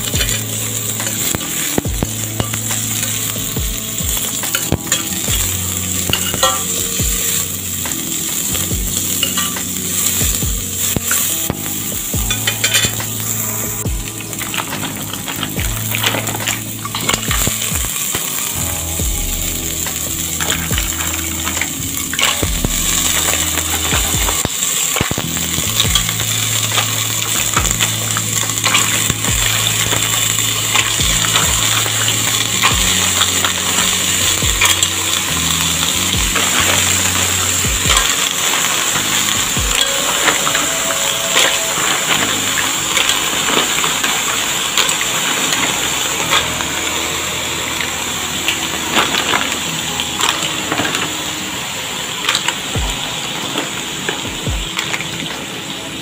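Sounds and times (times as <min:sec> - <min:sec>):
steady sizzling hiss: 0:00.0 - 0:56.0.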